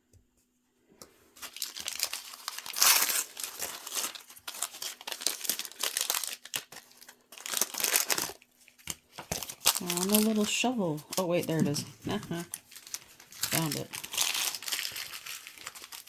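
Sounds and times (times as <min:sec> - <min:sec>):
plastic packaging crinkling: 0:01.3 - 0:16.0.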